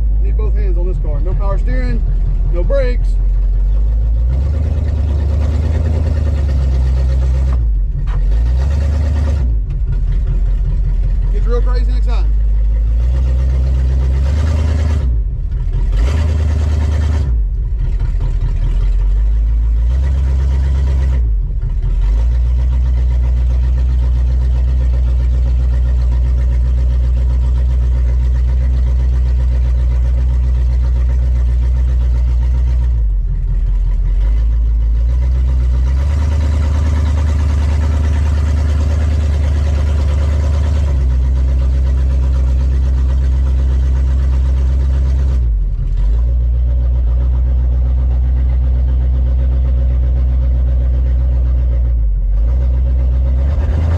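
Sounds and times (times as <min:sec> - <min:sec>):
car engine running: 0:00.0 - 0:53.9.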